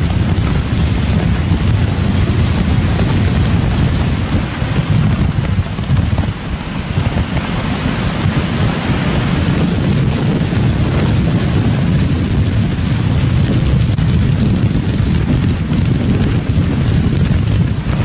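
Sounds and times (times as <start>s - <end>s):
driving rain: 0.0s - 18.0s
hurricane wind: 0.0s - 18.0s.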